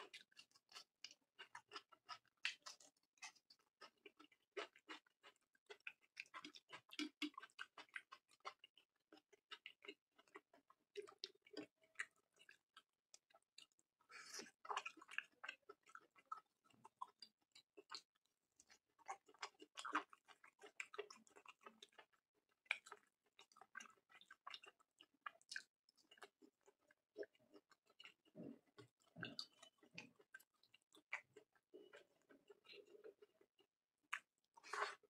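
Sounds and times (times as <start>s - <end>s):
chewing and wet mouth sounds: 0.0s - 35.0s.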